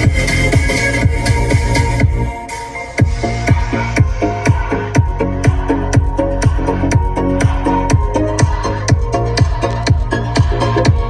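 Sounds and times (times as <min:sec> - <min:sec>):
deep kick drum thumping: 0:00.0 - 0:02.3, 0:03.0 - 0:11.0
electronic dance music through car speakers: 0:00.0 - 0:11.0
repeating synth chords: 0:00.0 - 0:11.0.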